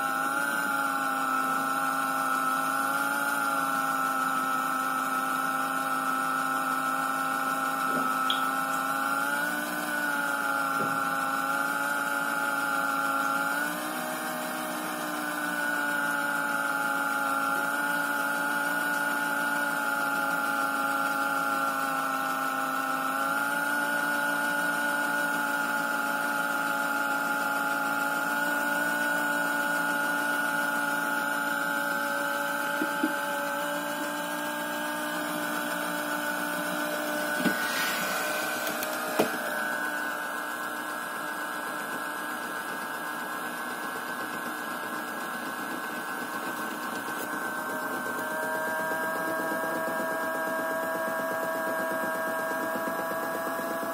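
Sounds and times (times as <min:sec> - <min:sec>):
washing machine motor whining: 0:00.0 - 0:53.9.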